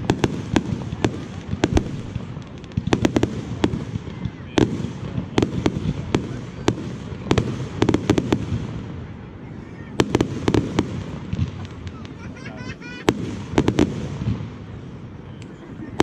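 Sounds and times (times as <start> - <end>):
fireworks bangs: 0.0 - 16.0
steady low background noise: 0.0 - 16.0.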